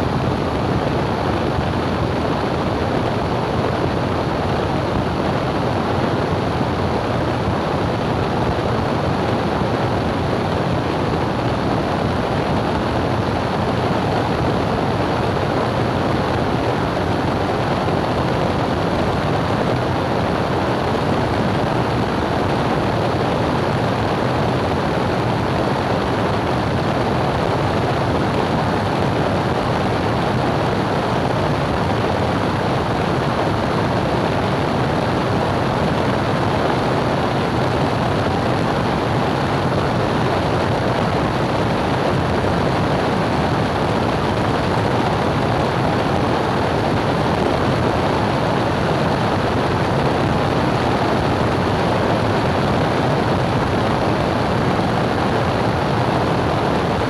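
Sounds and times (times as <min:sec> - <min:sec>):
propeller plane engine and airflow: 0:00.0 - 0:57.0.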